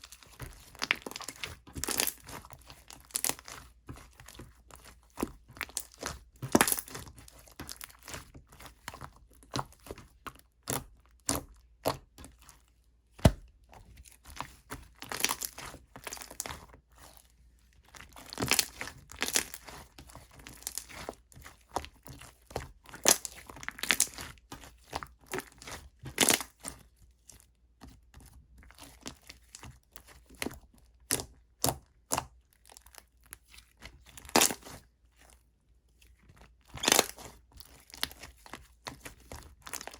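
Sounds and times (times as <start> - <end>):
slime stretched and squished: 0.0 - 39.9.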